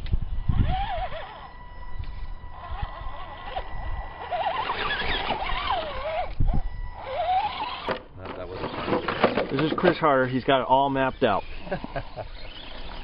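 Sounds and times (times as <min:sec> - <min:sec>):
electric motor whining: 0:00.0 - 0:09.4, 0:10.0 - 0:13.0.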